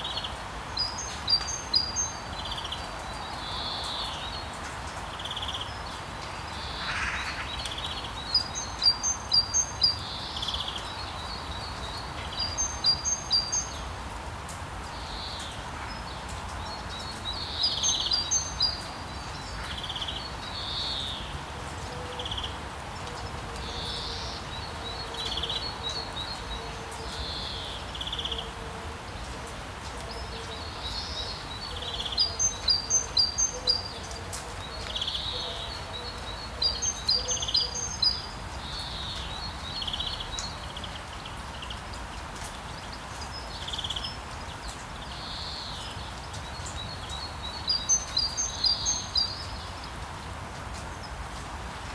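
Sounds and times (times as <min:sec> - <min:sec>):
songbirds singing: 0:00.0 - 0:14.0, 0:14.8 - 0:51.9.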